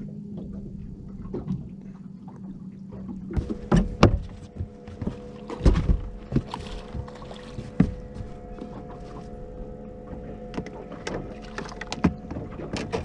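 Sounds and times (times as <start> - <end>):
boat motor hum: 0.0 - 13.0
hollow knocks against boat: 2.4 - 13.0.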